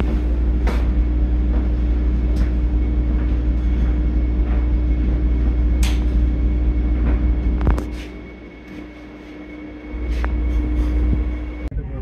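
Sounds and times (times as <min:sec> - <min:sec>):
constant hum: 0:00.0 - 0:12.0
train rumble: 0:00.0 - 0:12.0
faint high whine: 0:01.0 - 0:12.0.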